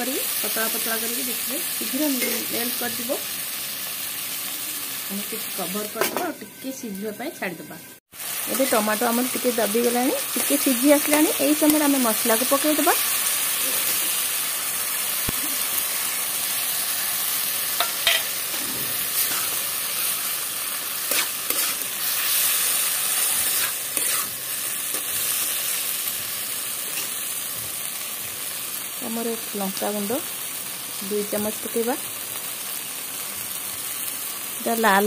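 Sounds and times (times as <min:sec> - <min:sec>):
tomatoes sizzling in hot oil: 0:00.0 - 0:35.0.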